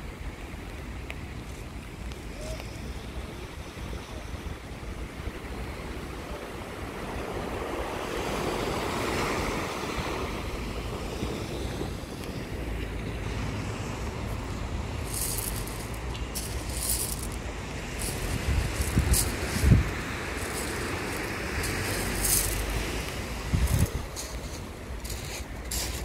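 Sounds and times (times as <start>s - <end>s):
small sea waves breaking: 5.0s - 26.0s.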